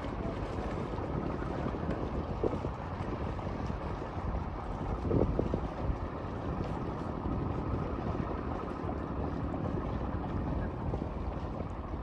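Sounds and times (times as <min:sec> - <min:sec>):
boat engines rumbling: 0:00.0 - 0:12.0
wind on microphone: 0:00.0 - 0:12.0.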